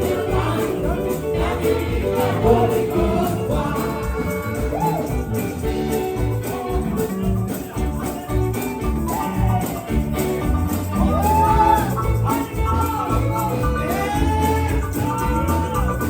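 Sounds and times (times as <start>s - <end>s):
percussion steady beat: 0.0s - 16.0s
voices singing praise song: 0.0s - 16.0s.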